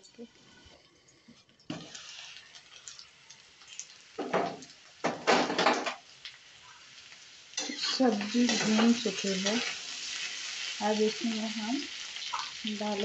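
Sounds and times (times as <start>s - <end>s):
vegetables sizzling in oil: 1.7s - 13.0s.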